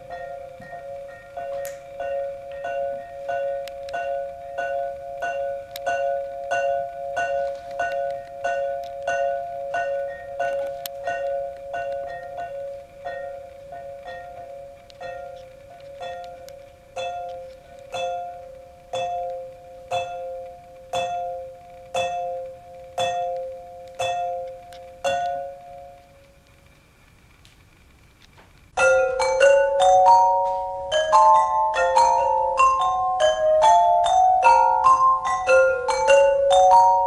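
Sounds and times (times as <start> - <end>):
tuned pipes struck with mallets: 0.0 - 26.3, 28.8 - 37.0.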